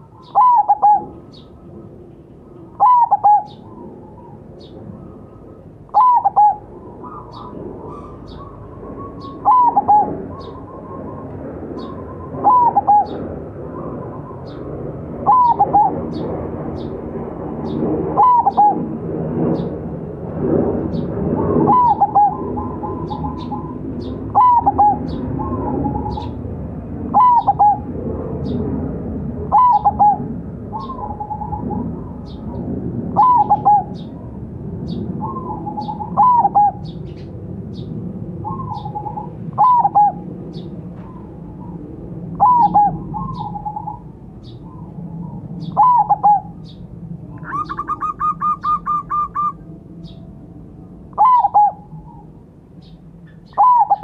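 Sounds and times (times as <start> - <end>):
dove cooing: 0.0 - 17.0, 17.6 - 18.9, 20.9 - 26.4, 27.1 - 28.6, 29.5 - 50.2, 51.1 - 52.3, 53.5 - 54.0.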